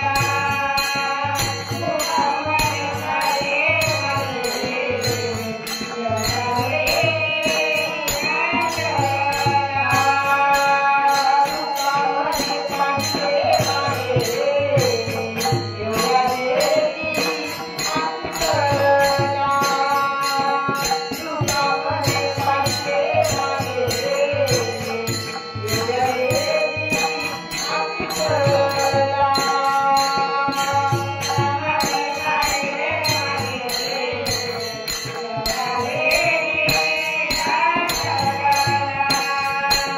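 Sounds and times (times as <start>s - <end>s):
hand percussion: 0.0s - 39.9s
woman singing devotional song: 0.0s - 39.9s.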